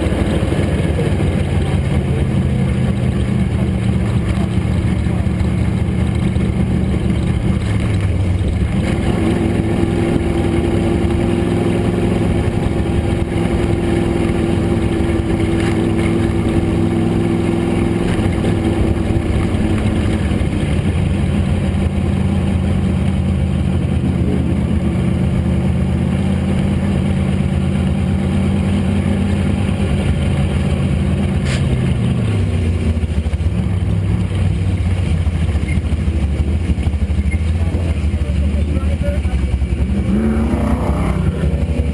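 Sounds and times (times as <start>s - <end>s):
race car engine at high revs: 0.0s - 41.9s.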